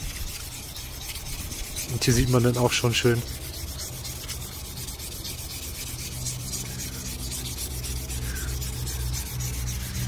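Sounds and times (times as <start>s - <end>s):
sandpaper rubbing on metal: 0.0s - 10.0s
steady low hum: 0.0s - 10.0s.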